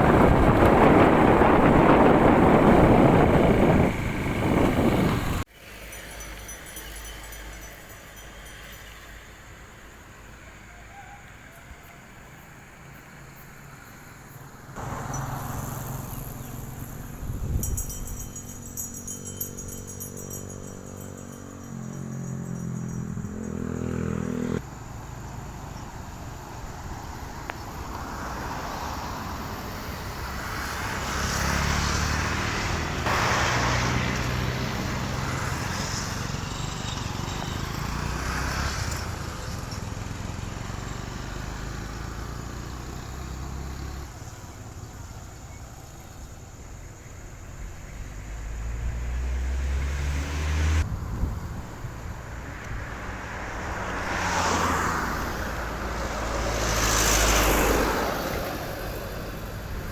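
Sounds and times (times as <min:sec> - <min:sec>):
vehicle engines passing on road: 0:00.0 - 0:59.9.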